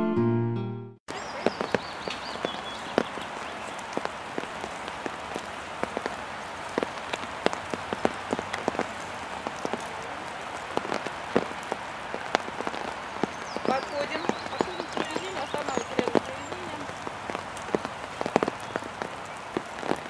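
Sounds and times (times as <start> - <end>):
rain falling: 1.1 - 20.0
sharp raindrop ticks: 1.4 - 20.0.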